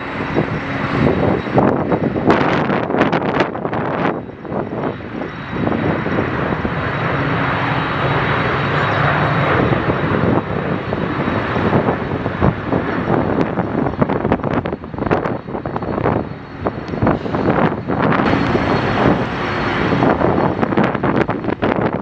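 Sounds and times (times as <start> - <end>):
airliner engines rushing: 0.0 - 22.0
wind buffeting microphone: 0.0 - 22.0.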